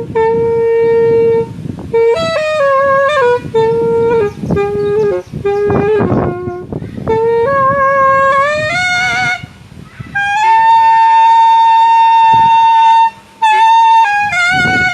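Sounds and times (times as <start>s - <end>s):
saxophone playing slow melody: 0.0s - 14.9s.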